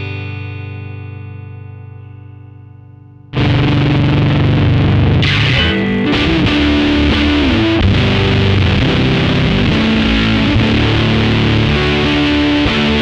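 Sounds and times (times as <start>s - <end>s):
fuzz-distorted electric guitar: 0.0s - 13.0s.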